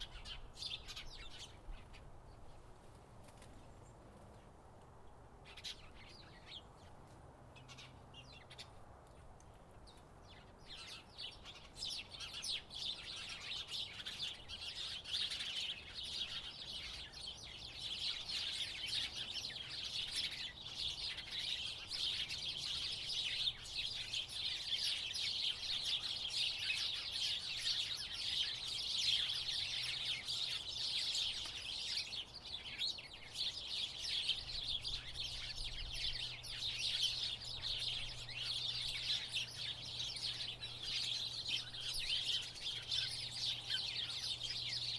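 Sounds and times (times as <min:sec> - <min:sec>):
sparrows chirping: 0:00.0 - 0:02.6, 0:05.4 - 0:44.9.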